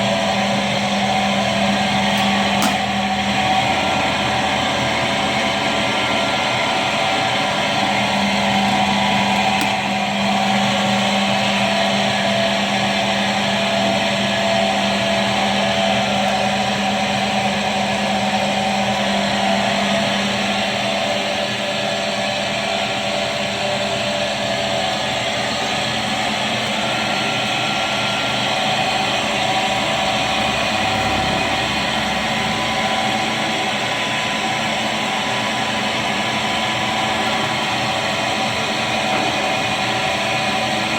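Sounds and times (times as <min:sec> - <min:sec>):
stone drilling machine whine: 0:00.0 - 0:40.9.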